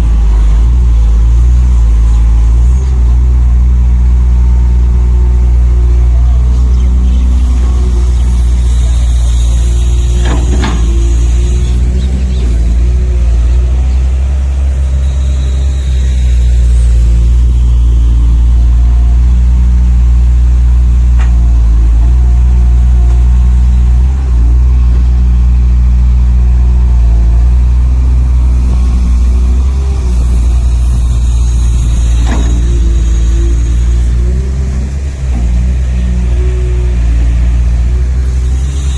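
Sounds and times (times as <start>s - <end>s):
model engine droning: 0.0s - 38.9s.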